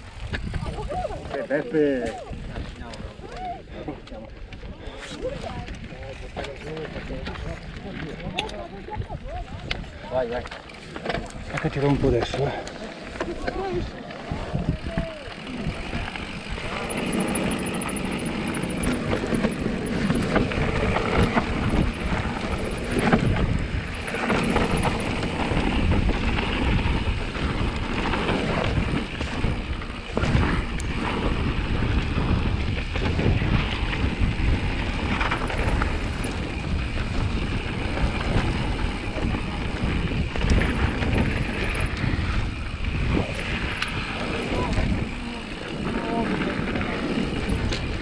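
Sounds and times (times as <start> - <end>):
bike rattling and knocking: 0.0 - 3.2, 4.1 - 48.0
wind buffeting microphone: 0.0 - 48.0.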